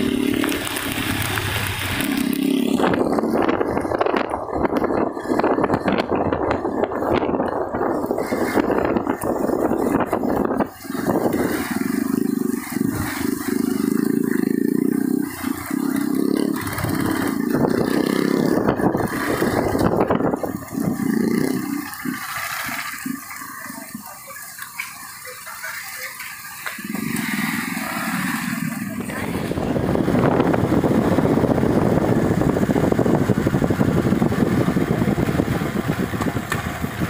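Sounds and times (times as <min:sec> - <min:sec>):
wind rush: 0:00.0 - 0:23.1, 0:27.2 - 0:37.0
motorcycle engine: 0:00.0 - 0:37.0
wet tyre noise: 0:00.0 - 0:37.0.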